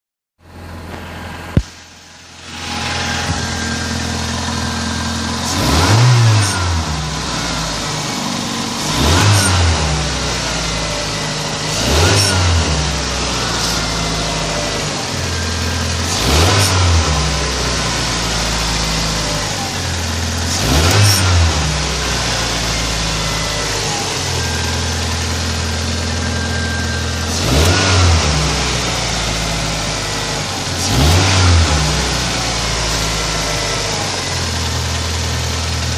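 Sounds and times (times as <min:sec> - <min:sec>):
car engine idling and revving: 0:00.4 - 0:35.9.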